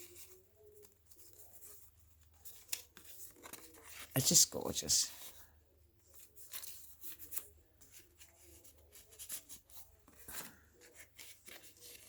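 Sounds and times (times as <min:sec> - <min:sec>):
paper pages rustling: 0:00.0 - 0:05.4, 0:06.0 - 0:12.0.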